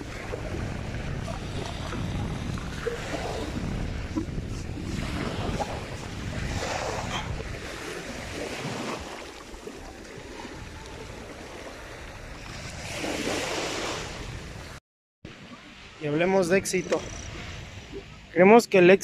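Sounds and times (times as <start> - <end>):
small waves washing on sand: 0.0 - 16.4
wind rumbling on microphone: 0.0 - 18.3.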